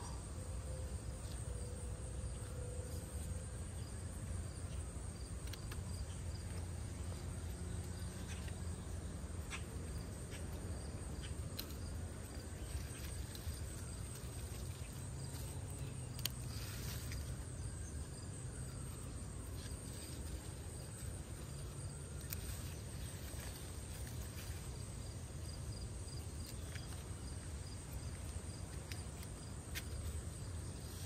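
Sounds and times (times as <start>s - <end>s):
insects chirping: 0.0s - 31.0s.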